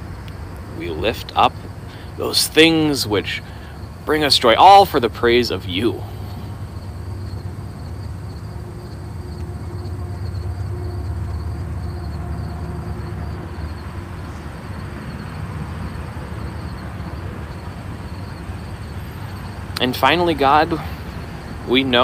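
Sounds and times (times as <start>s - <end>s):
insect trill: 0.0s - 22.0s
traffic rumble: 0.0s - 22.0s.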